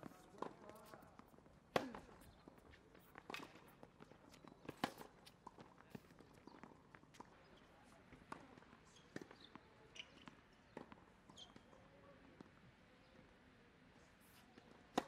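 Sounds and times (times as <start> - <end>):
tennis ball bouncing on court: 0.0 - 7.4, 8.1 - 13.1, 14.4 - 15.0.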